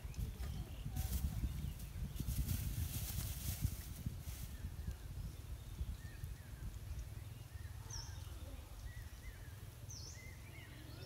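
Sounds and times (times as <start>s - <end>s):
low uneven rumble: 0.0s - 11.0s
small birds chirping: 0.0s - 11.0s.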